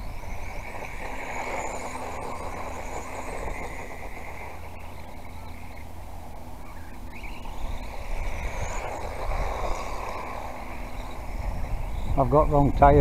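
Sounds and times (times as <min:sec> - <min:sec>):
electric toy car motor whine: 0:00.0 - 0:13.0
wind buffeting microphone: 0:00.0 - 0:13.0.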